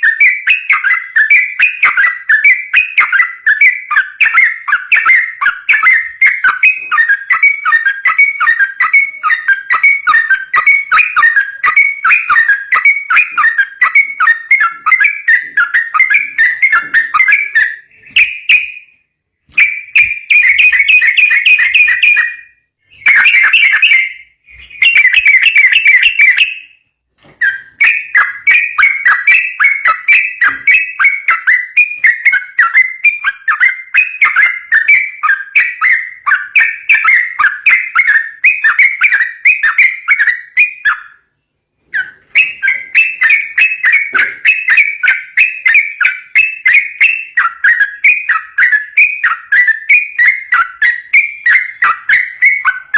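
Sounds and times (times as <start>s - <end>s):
bird singing whistled chirps: 0.0s - 52.9s.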